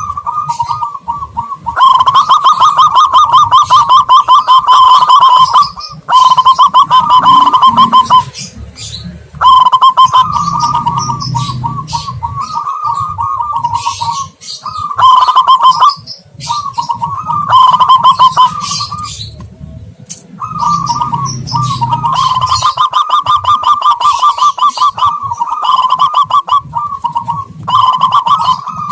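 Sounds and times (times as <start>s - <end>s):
doves cooing: 0.0s - 28.9s
small birds chirping: 0.0s - 28.9s.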